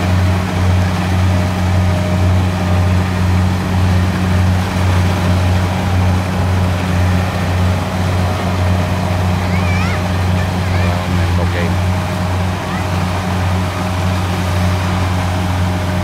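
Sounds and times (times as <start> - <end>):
diesel engine droning under load: 0.0 - 16.0.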